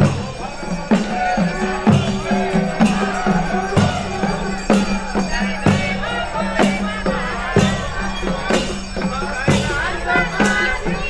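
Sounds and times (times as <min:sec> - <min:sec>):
drum beats: 0:00.0 - 0:11.0
wavering melody: 0:00.0 - 0:11.0.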